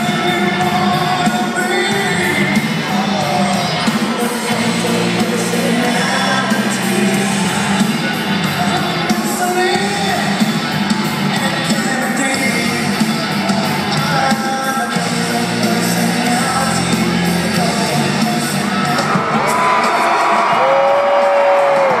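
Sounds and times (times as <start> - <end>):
crowd shouting and cheering: 0.0 - 22.0
music with singing over sound system: 0.0 - 22.0.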